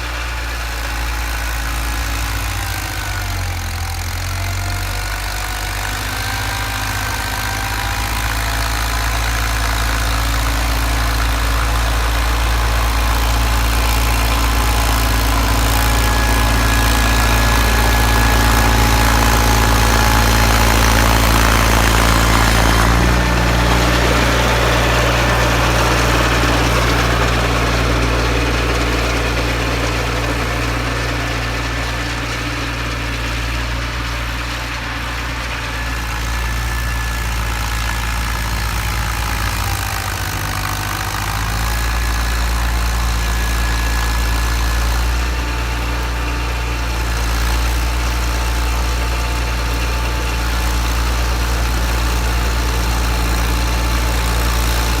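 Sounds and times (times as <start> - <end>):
garden tractor engine running: 0.0 - 55.0
snowblower whine: 0.0 - 55.0.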